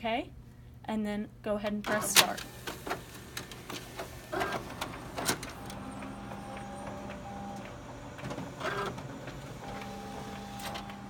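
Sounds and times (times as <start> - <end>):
copier clatter: 1.8 - 11.0
copier motor hum: 1.8 - 11.0
paper feed clicks: 1.9 - 11.0.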